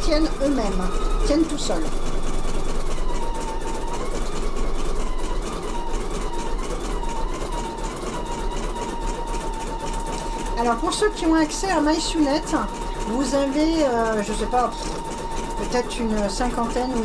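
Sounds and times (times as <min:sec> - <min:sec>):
embroidery machine needle clatter: 0:00.0 - 0:17.0
motor whine: 0:00.0 - 0:17.0.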